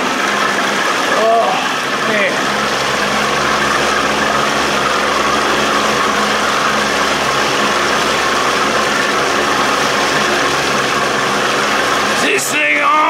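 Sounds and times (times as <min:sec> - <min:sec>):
outboard motor running: 0:00.0 - 0:13.0
water rushing: 0:00.0 - 0:13.0.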